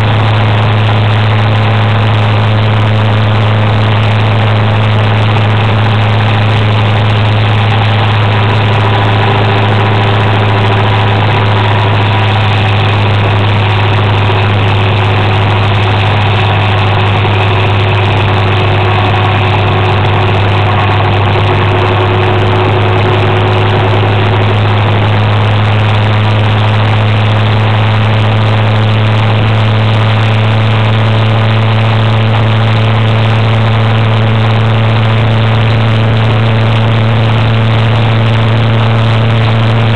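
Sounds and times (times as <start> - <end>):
scooter engine drone: 0.0 - 39.9.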